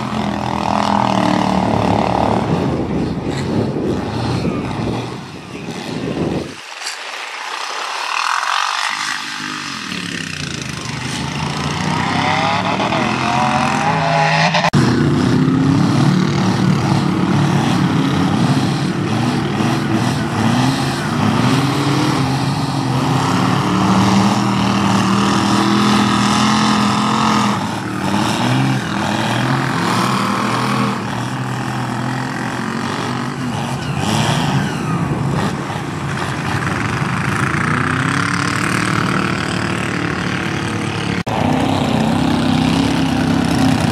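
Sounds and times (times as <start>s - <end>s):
truck engine revving hard: 0.0s - 6.6s, 8.7s - 43.9s.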